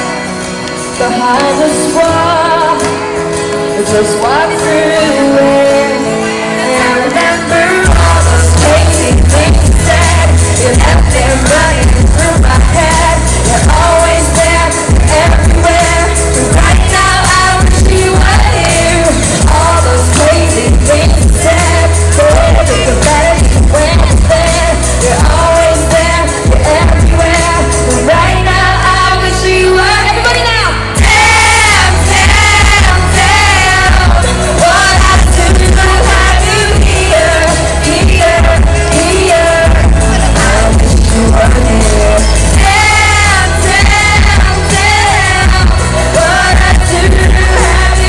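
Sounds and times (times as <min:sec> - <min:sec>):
backing track with heavy bass: 0:00.0 - 0:48.0
voices singing live pop song: 0:00.0 - 0:48.0.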